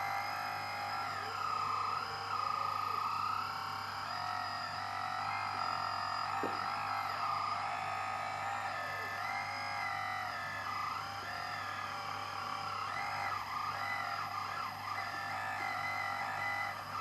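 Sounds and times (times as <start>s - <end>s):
electric hydraulic pump whine: 0.0s - 17.0s.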